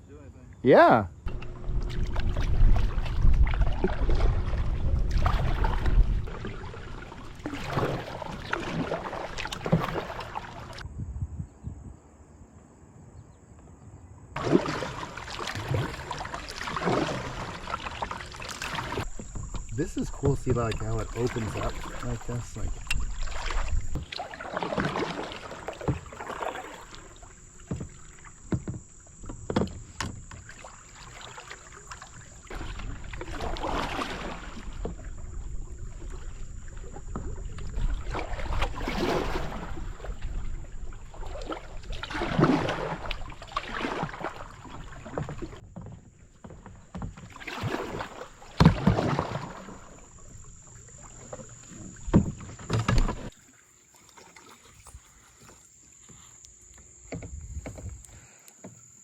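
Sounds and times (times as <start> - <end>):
canoe paddles splashing: 0.6 - 10.9, 14.4 - 59.0.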